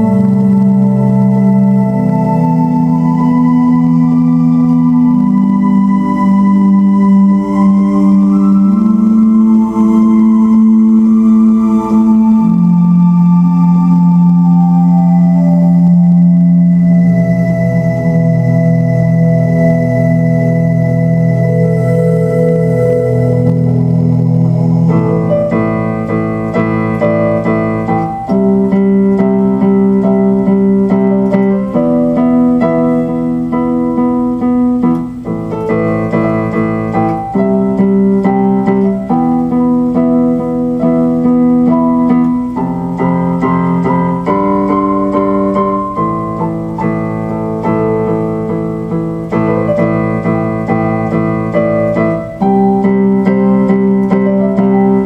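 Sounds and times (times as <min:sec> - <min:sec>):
electric piano slow chords: 0:00.0 - 0:55.0.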